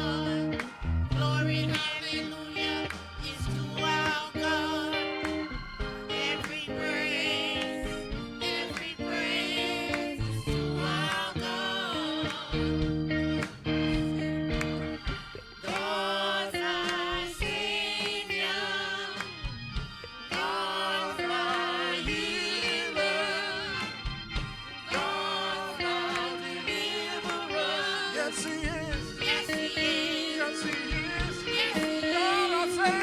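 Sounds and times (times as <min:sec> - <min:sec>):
person singing with vibrato: 0:00.0 - 0:13.8, 0:14.9 - 0:24.1, 0:24.8 - 0:33.0
held instrumental chords: 0:00.0 - 0:33.0.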